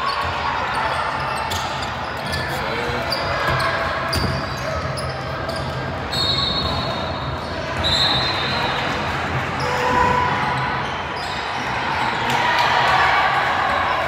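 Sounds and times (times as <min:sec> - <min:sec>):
sneakers squeaking: 0:00.0 - 0:12.4.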